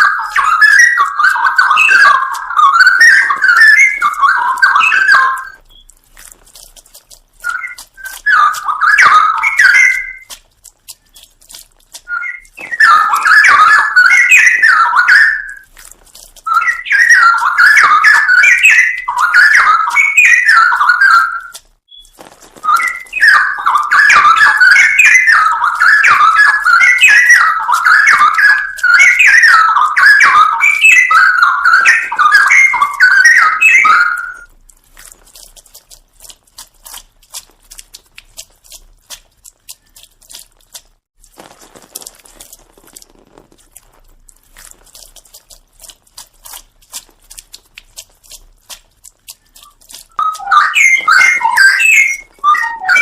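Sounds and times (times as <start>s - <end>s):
bird singing bubbling warbles: 0.0s - 40.9s, 41.7s - 53.0s.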